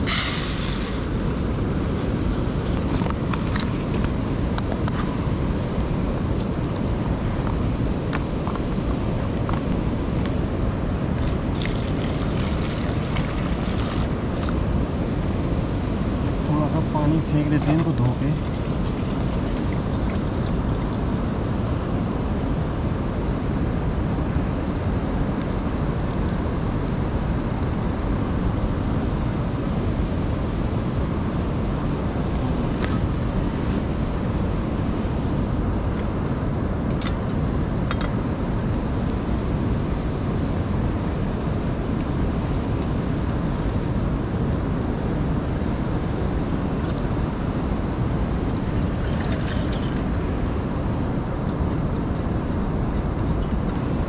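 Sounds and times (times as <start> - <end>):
river rushing roar: 0.0 - 54.0.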